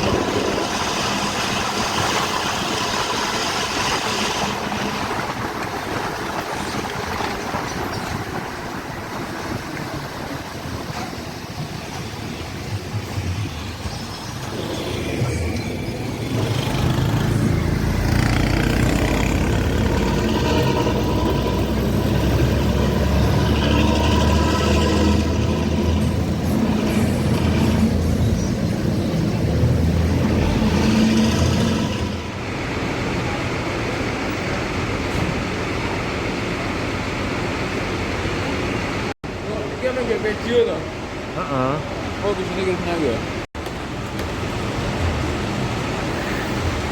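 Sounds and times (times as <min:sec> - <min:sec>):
bus diesel engine growling: 0:00.0 - 0:46.9.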